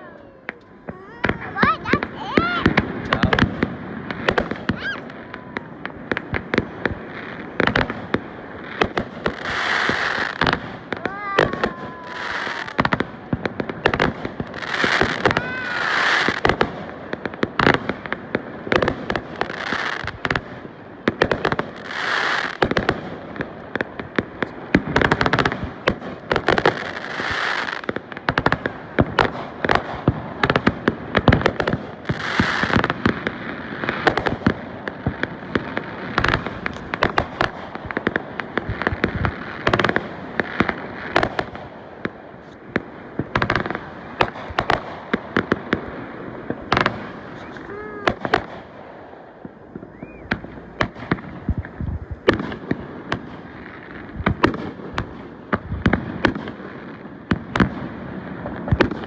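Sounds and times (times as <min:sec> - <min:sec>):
firework bangs: 0:00.0 - 0:59.0
firework crackling bursts: 0:00.0 - 0:59.0.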